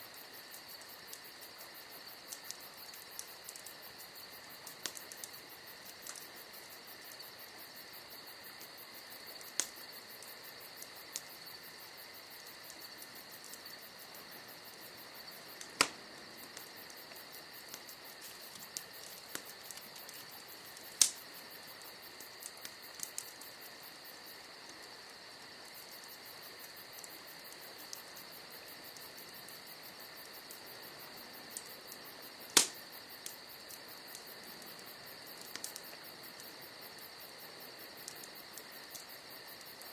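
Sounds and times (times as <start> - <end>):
crickets trilling: 0.0 - 39.9
wood fire crackling and popping: 0.0 - 39.9.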